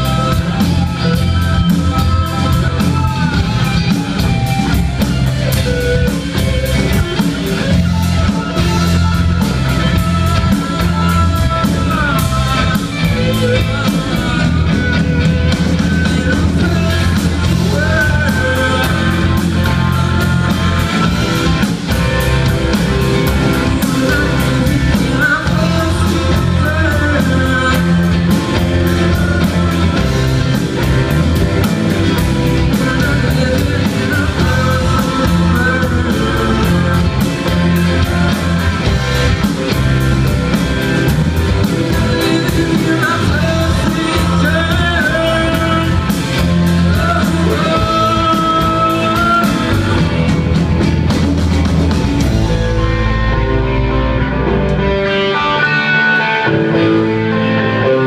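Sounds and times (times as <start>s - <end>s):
bass guitar: 0.0s - 58.0s
drum kit: 0.0s - 58.0s
electric guitars: 0.0s - 58.0s.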